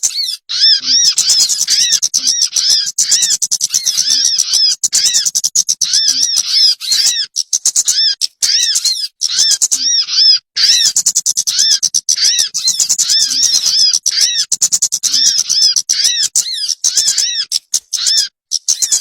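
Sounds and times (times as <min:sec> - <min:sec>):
rapid ticking bird chips: 0:00.0 - 0:19.0
whistled bird calls: 0:00.0 - 0:19.0.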